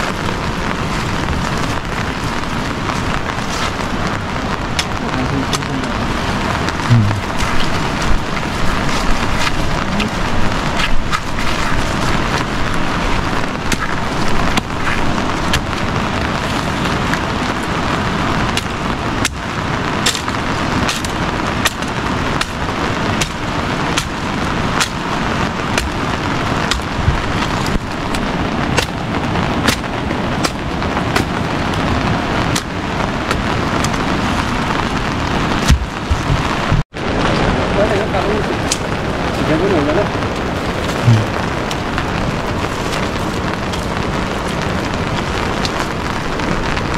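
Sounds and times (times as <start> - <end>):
rain falling on foliage: 0.0 - 46.9
raindrops tapping: 0.0 - 46.9.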